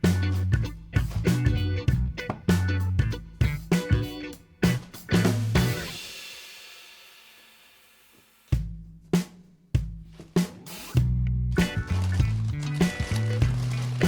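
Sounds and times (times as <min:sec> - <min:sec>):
drum break: 0:00.0 - 0:07.5, 0:08.2 - 0:14.0.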